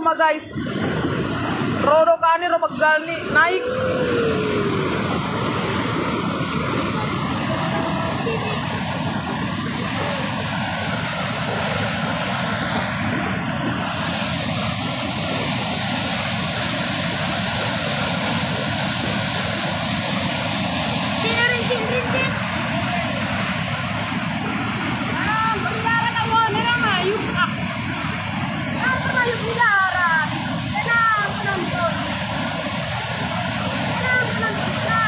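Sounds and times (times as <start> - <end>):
water rushing over a weir: 0.0 - 35.0.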